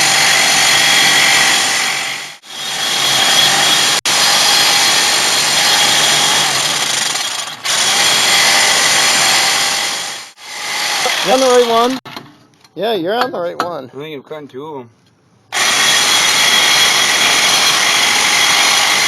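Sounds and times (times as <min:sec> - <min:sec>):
reciprocating saw cutting steel: 0:00.0 - 0:12.0, 0:15.5 - 0:19.0.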